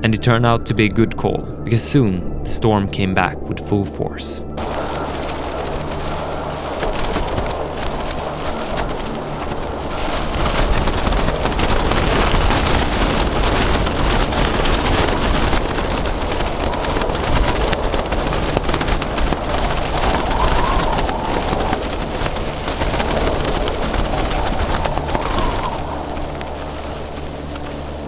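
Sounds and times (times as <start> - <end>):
storm wind buffeting microphone: 4.5 - 28.0
crackle of hail hits: 4.6 - 28.0.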